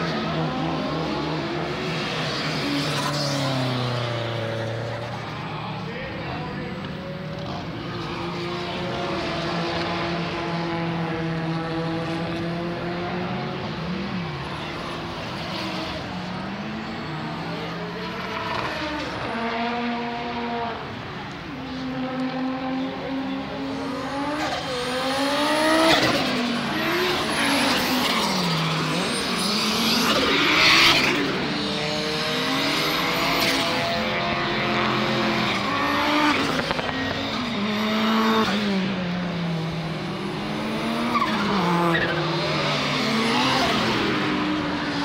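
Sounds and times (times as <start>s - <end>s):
race car engines revving: 0.0s - 45.0s.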